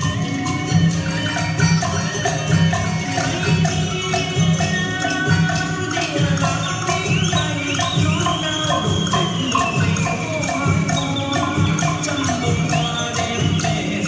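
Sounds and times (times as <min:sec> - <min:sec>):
high sliding melody: 0:00.0 - 0:14.0
jingling clicking percussion: 0:00.0 - 0:14.0.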